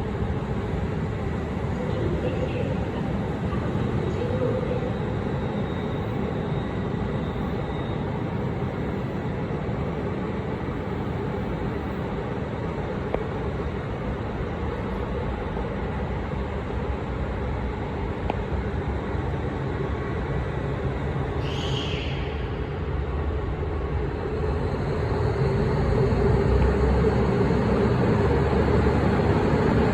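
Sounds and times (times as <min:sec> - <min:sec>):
diesel railcar engine rumble: 0:00.0 - 0:29.9.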